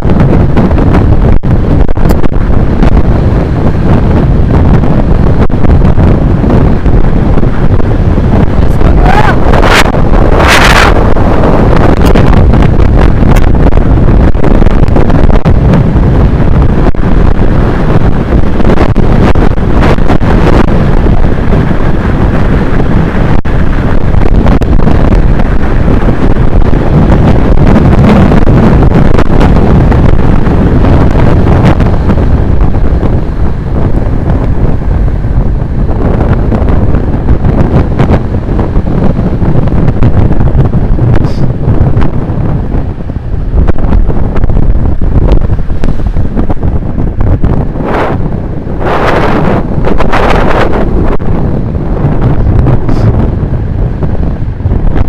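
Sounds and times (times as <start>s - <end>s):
heavy wind on microphone: 0.0s - 55.0s.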